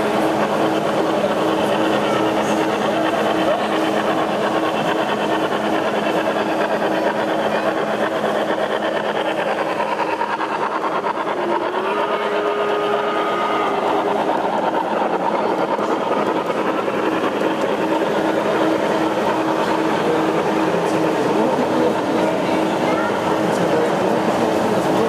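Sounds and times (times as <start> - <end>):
model trains running on track: 0.0 - 25.0.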